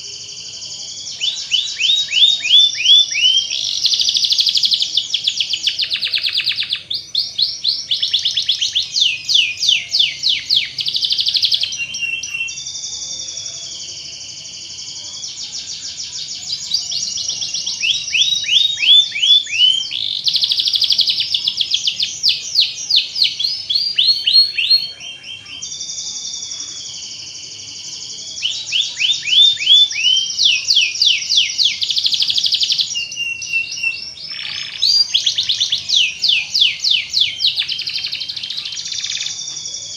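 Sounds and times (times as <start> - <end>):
canary singing with trills: 0.0 - 39.9.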